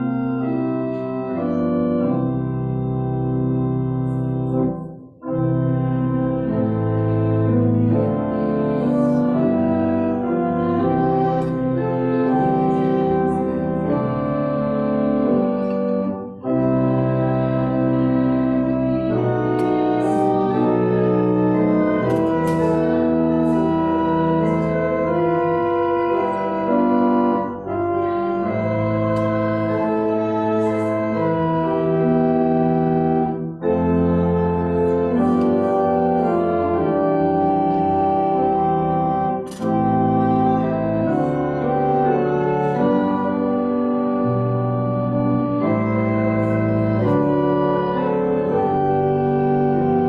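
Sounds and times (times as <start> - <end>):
church organ chords: 0.0 - 50.0.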